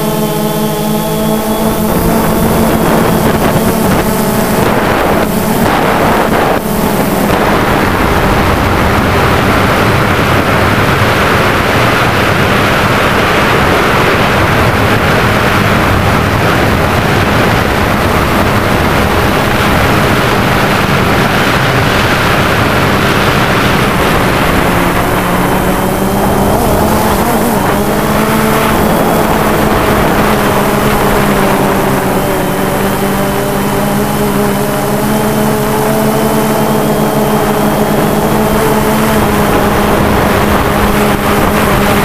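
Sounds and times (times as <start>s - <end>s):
drone propellers whirring: 0.0s - 42.0s
wind rushing over microphone: 0.0s - 42.0s.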